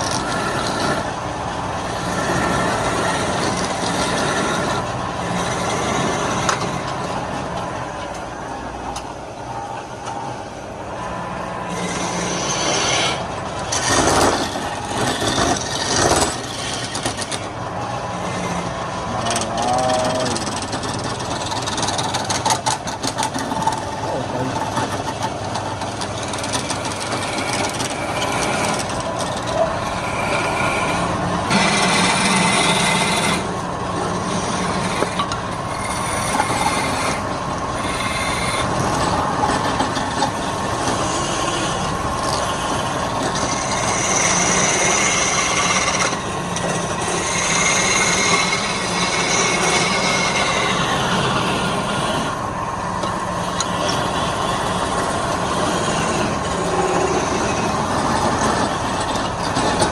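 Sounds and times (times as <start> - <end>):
wood lathe cutting wood: 0.0 - 59.9.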